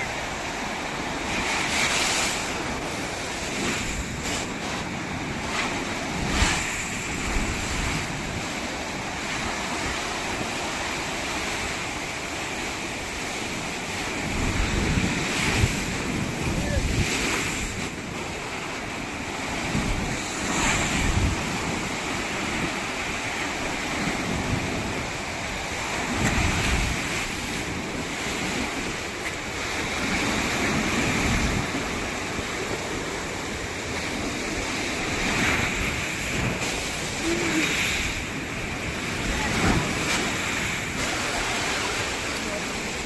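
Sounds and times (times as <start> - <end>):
ocean surf breaking: 0.0 - 43.0
wind rumbling on microphone: 0.0 - 43.0.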